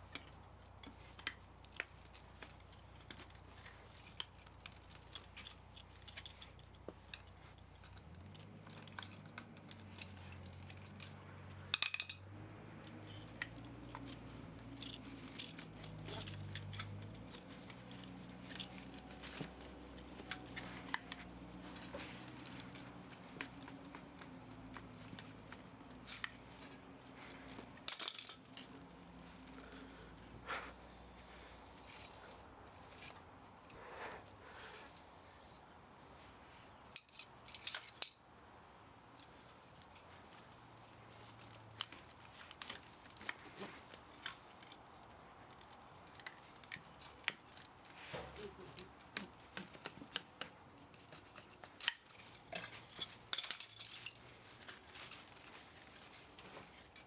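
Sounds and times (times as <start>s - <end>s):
hand tools clicking and snipping: 0.0s - 35.0s, 36.7s - 57.0s.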